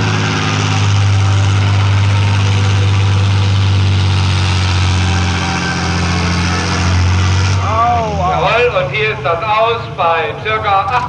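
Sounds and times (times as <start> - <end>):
tractor engine running hard: 0.0 - 11.0.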